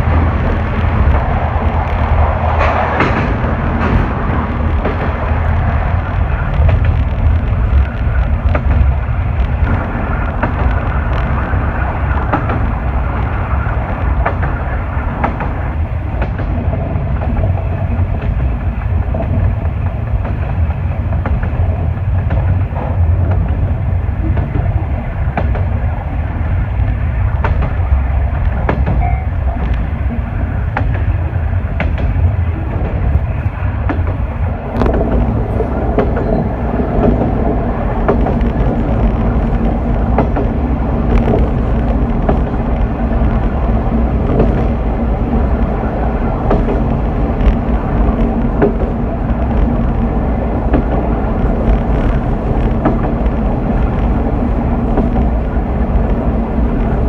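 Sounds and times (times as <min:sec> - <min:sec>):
diesel railcar engine rumble: 0:00.0 - 0:57.0
rail-joint clicks: 0:00.0 - 0:57.0
train wheels on rails: 0:00.0 - 0:57.0.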